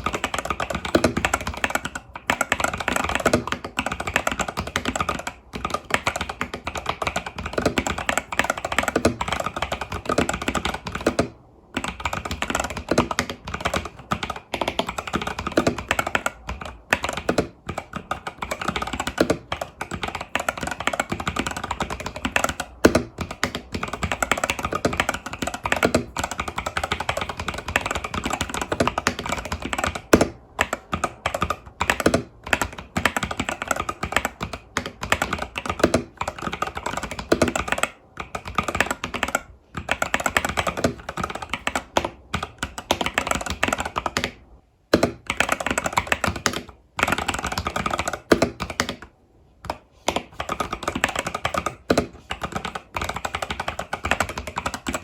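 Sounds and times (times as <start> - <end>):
mechanical keyboard typing: 0.0 - 55.0.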